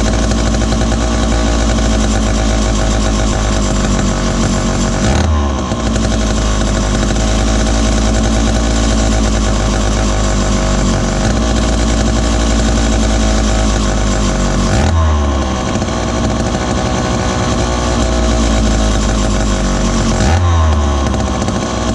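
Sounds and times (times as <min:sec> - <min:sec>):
chainsaw engine revving: 0:00.0 - 0:21.9.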